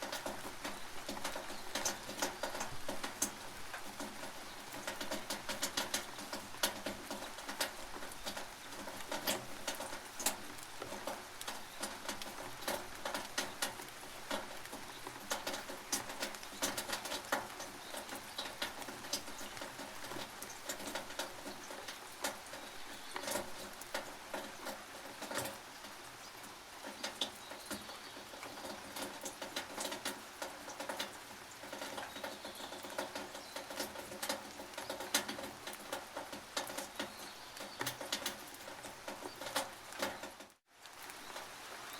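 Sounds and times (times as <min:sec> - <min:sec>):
rain on a tin roof: 0:00.0 - 0:41.9.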